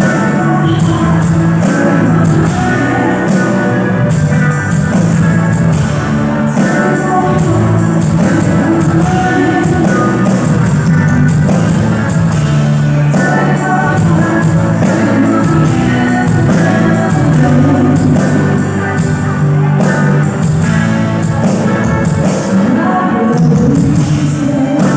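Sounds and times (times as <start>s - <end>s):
electric guitar: 0.0s - 24.9s
live rock band playing: 0.0s - 24.9s.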